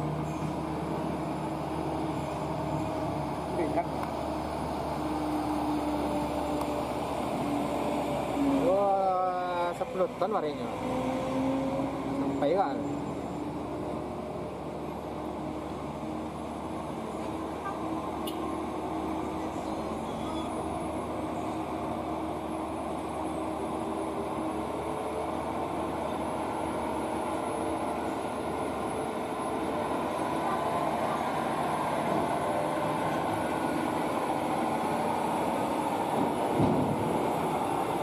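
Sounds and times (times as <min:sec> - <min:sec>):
truck diesel engine under load: 0:00.0 - 0:38.0.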